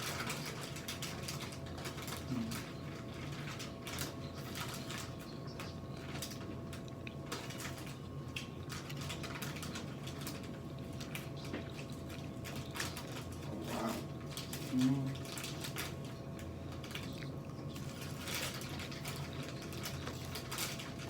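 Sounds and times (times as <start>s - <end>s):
wet chewing sounds: 0.0s - 21.0s.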